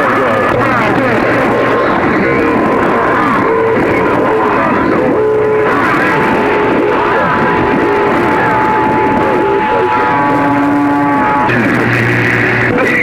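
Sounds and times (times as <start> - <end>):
distant radio signals: 0.0 - 13.0
guitar music over radio: 0.0 - 13.0.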